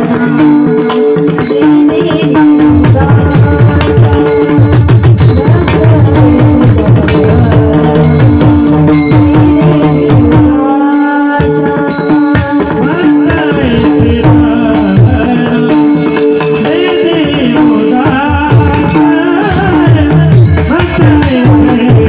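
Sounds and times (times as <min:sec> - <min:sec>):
tabla strokes: 0:00.0 - 0:22.0
woman singing: 0:00.0 - 0:22.0.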